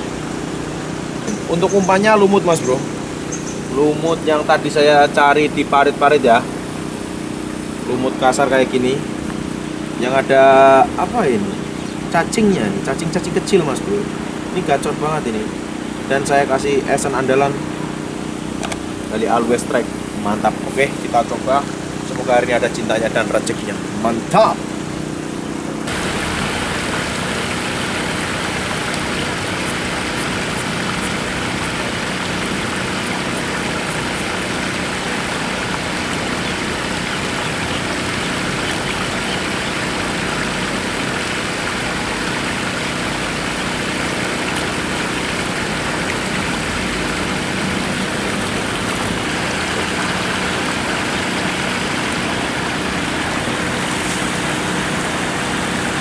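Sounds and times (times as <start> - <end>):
water pouring over weir: 0.0 - 56.0.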